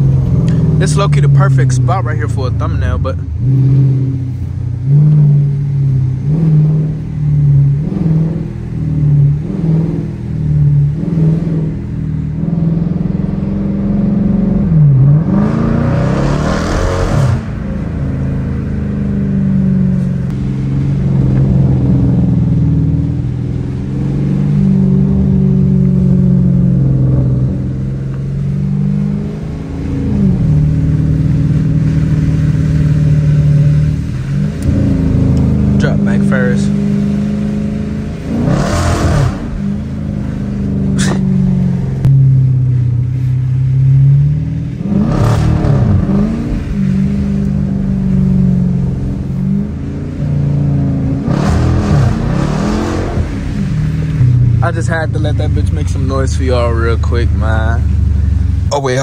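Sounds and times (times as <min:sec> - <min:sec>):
car engine from inside cabin: 0:00.0 - 0:59.0.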